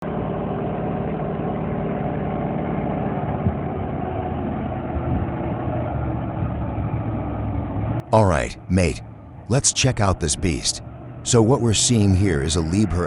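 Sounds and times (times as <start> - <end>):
heavy vehicle engine rumble: 0.0 - 13.0.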